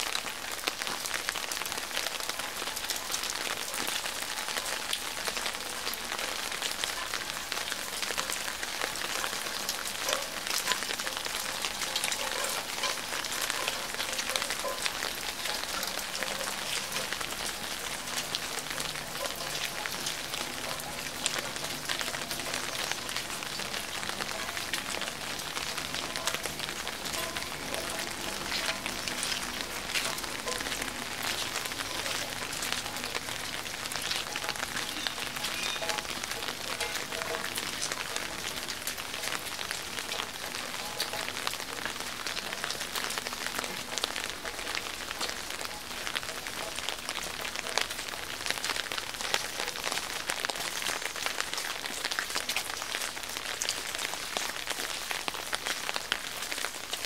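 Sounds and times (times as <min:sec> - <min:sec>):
sharp raindrops hitting close by: 0:00.0 - 0:57.0
steady rain falling: 0:00.0 - 0:57.0.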